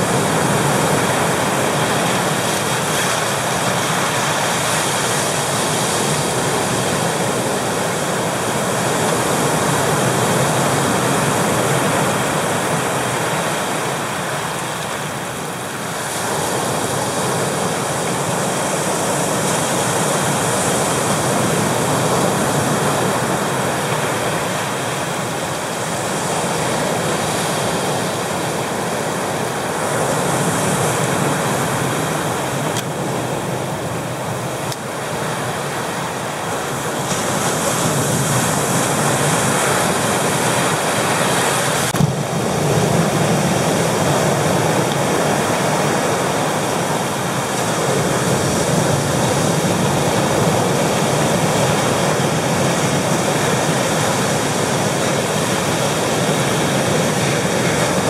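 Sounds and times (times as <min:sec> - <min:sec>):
surf breaking over rocks: 0:00.0 - 0:58.0.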